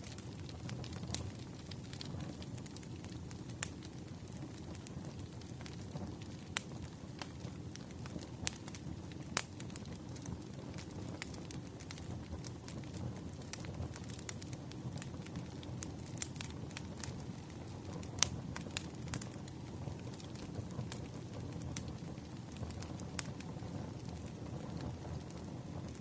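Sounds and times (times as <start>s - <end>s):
campfire crackling and popping: 0.0s - 26.0s
low rumble of burning wood: 0.0s - 26.0s.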